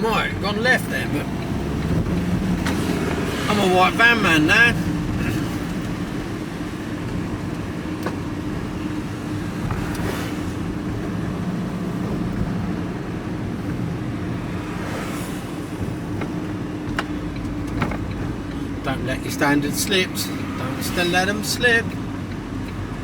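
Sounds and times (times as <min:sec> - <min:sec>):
van engine rumble inside cab: 0:00.0 - 0:23.0.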